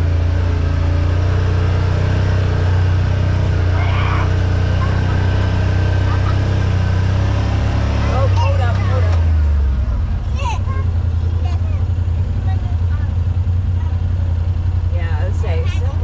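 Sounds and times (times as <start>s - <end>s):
utility vehicle engine droning: 0.0s - 16.0s.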